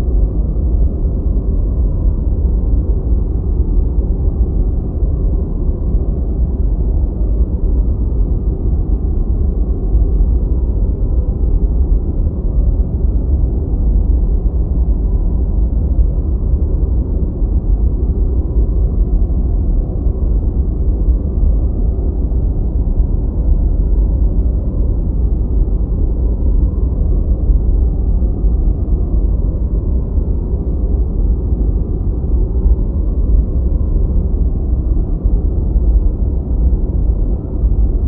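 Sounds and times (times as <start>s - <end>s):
deep white noise rumble: 0.0s - 38.0s.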